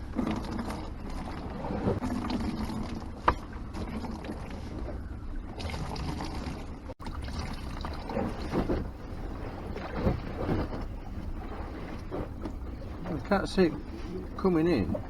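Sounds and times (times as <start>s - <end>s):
low rumble of boat hull: 0.0s - 15.0s.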